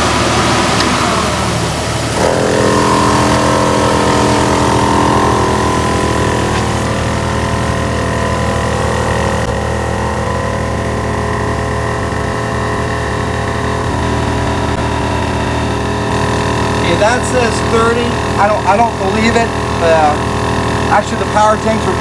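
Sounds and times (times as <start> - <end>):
air compressor running: 0.0 - 22.0
car engine idling: 0.0 - 22.0.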